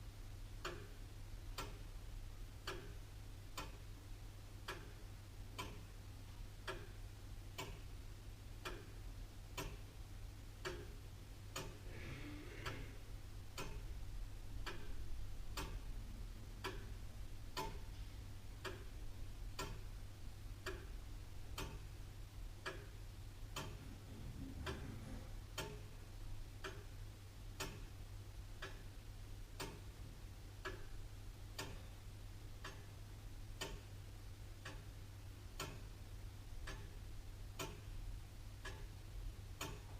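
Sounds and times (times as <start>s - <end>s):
clock ticking: 0.5s - 12.0s, 12.6s - 39.9s.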